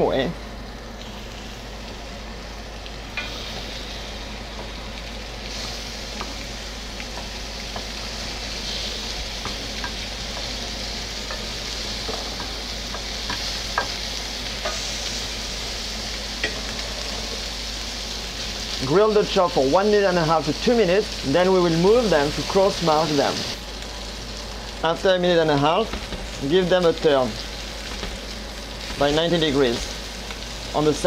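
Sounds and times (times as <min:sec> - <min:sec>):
meat sizzling on grill pan: 0:00.0 - 0:31.0.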